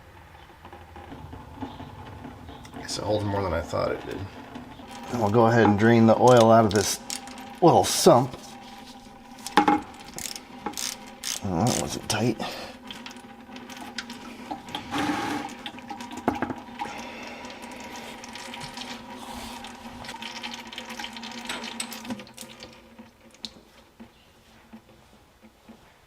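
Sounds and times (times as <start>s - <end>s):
oil pouring and splashing: 0.4s - 24.0s.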